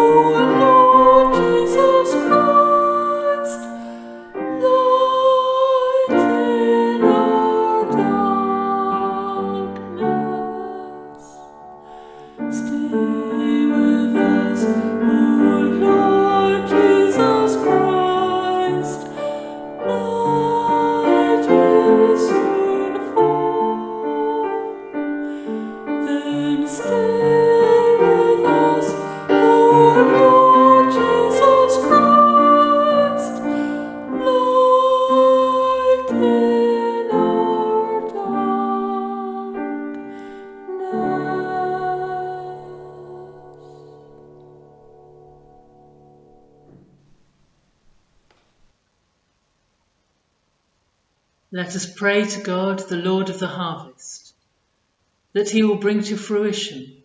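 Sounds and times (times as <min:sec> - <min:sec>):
keyboard accompaniment: 0:00.0 - 0:05.3, 0:06.0 - 0:47.4
slow chant singing: 0:00.0 - 0:45.8.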